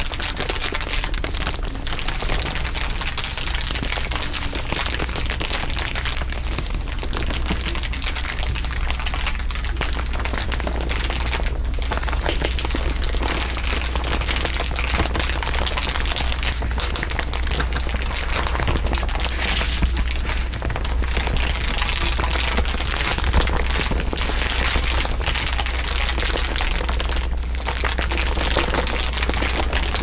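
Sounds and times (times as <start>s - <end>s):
dense crinkling crackles: 0.0s - 30.0s.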